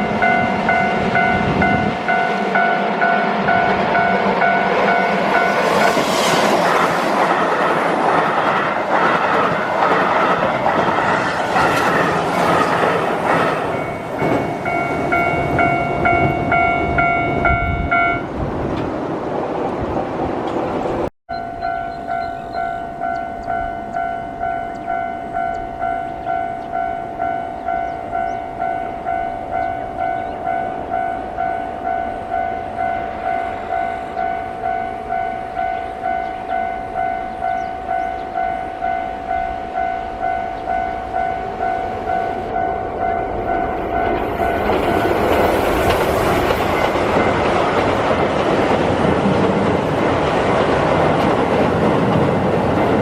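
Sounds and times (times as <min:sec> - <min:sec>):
crossing warning bell ringing: 0:00.0 - 0:18.4, 0:21.3 - 0:48.7
train running over steel bridge: 0:00.0 - 0:53.0.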